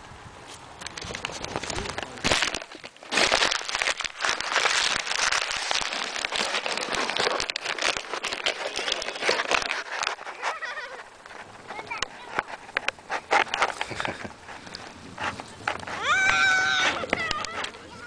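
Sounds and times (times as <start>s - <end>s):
close rustling and crinkling: 0.4s - 18.0s.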